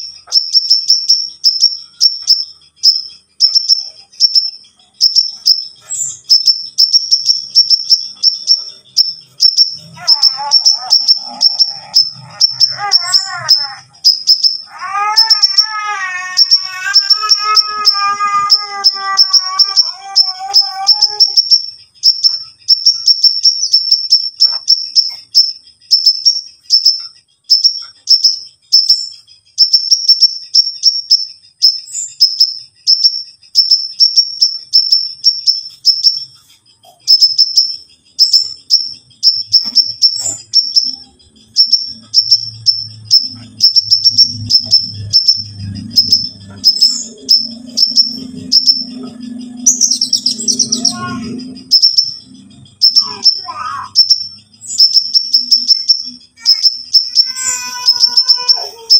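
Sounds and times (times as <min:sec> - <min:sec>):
sunbird chirping trills: 0:00.0 - 0:58.9.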